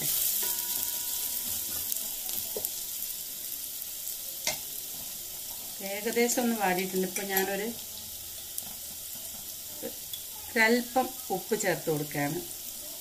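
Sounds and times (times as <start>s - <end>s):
onions sizzling in a pan: 0.0s - 13.0s.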